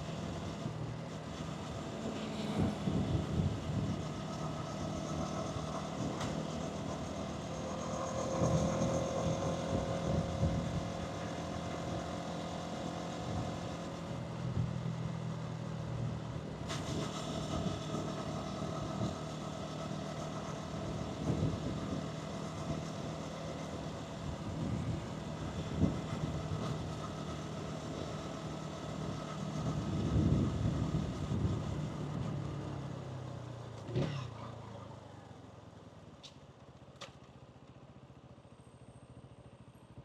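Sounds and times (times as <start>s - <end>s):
motorcycle engine and exhaust: 0.0s - 40.0s
road and wind noise: 0.0s - 40.0s.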